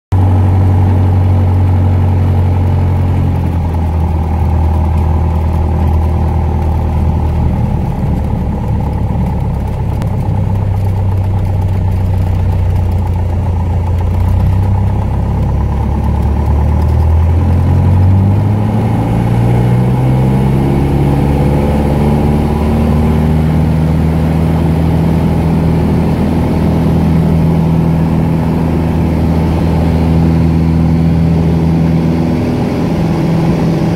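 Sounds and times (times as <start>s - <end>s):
aircraft engine and propeller: 0.1s - 33.9s.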